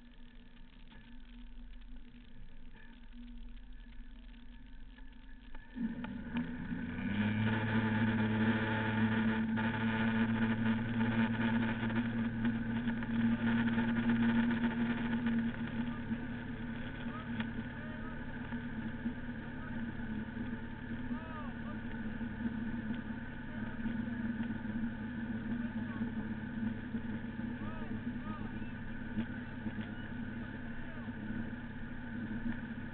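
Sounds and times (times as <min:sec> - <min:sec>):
boat engine throttling up: 0:00.0 - 0:32.9.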